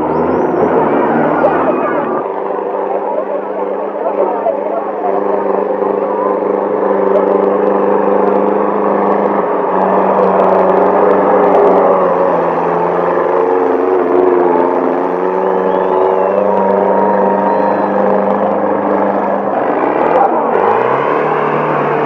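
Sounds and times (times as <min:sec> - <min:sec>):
tractor engine running hard: 0:00.0 - 0:22.0.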